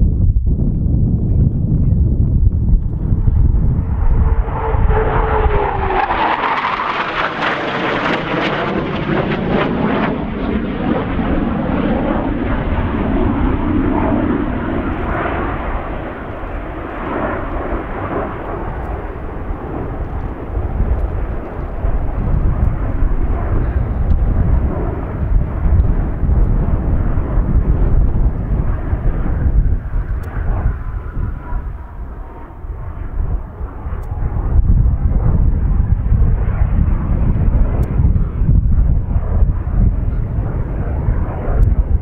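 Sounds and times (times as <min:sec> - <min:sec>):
jet engines roaring past: 0:00.0 - 0:42.0.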